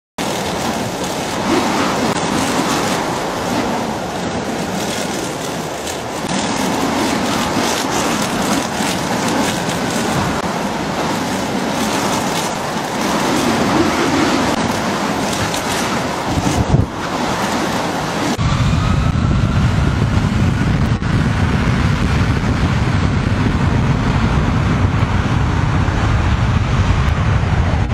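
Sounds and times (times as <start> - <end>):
jet engines of an airliner: 0.2 - 27.9
wind rushing on microphone: 0.2 - 27.9.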